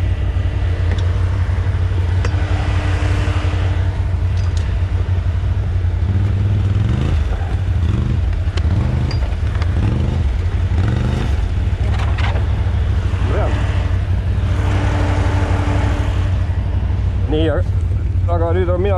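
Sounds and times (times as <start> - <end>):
quad bike engine revving: 0.0 - 18.9.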